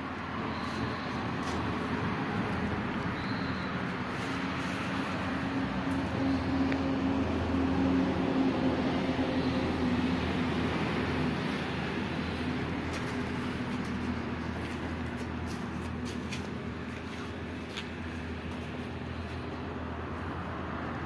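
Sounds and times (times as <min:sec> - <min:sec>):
engine hum: 0:00.0 - 0:21.0.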